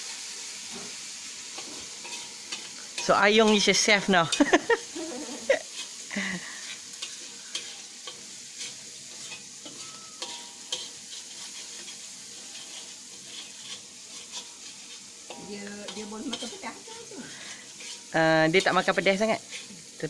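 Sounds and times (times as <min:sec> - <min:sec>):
chili paste sizzling in oil: 0:00.0 - 0:20.0
metal spatula scraping a pan: 0:00.6 - 0:04.7, 0:05.3 - 0:20.0.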